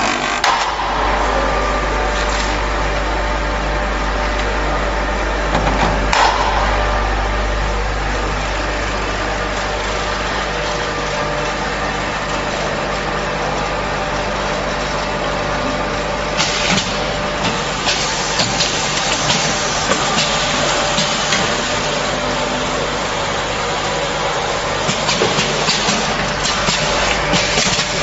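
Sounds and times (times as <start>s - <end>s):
packaging machine humming: 0.0s - 28.0s.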